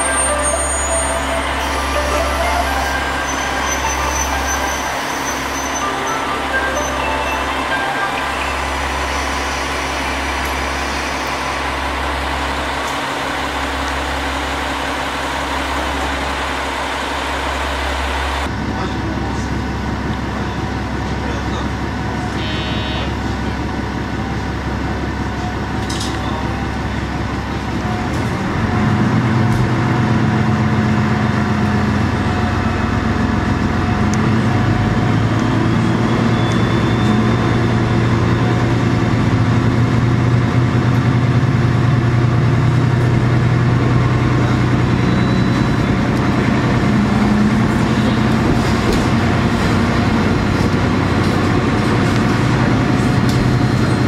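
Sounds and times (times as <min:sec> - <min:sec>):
diesel railcar engine: 0:00.0 - 0:54.0.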